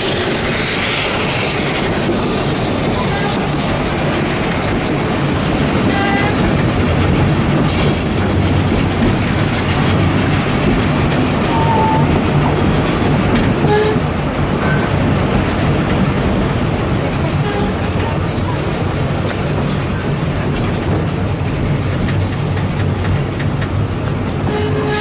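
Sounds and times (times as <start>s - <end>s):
railway carriage wheels running: 0.0s - 25.0s.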